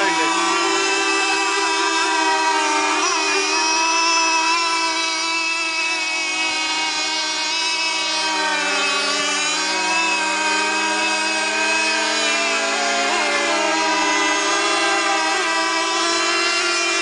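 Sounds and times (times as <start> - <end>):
model boat engines whining: 0.0 - 17.0.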